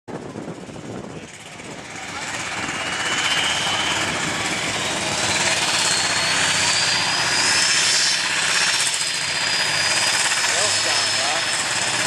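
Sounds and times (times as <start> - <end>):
tractor engine running loud: 0.1 - 12.0
high turbo whistle: 2.3 - 12.0.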